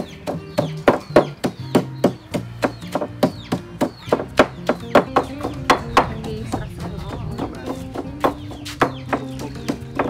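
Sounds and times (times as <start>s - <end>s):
pestle pounding in mortar: 0.0s - 10.0s.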